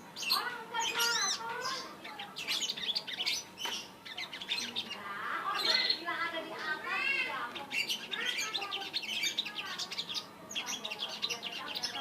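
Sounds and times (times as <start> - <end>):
sunbird singing: 0.0 - 12.0.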